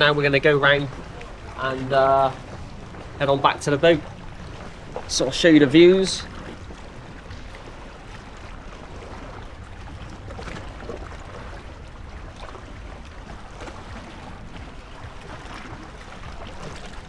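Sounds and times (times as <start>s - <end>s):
paddle splash: 0.0s - 17.0s
water washing: 0.0s - 17.0s
wind: 0.0s - 17.0s.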